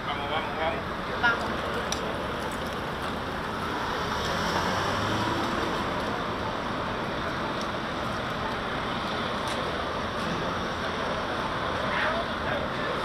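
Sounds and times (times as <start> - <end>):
passing and idling cars: 0.0 - 13.0.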